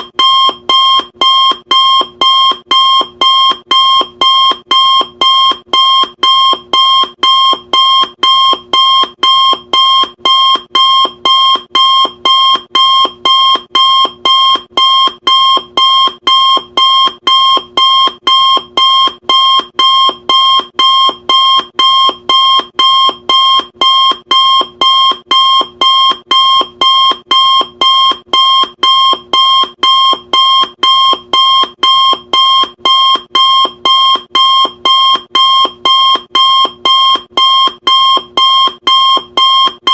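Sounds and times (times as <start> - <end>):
electronic timer alarm beeping: 0.0 - 39.9.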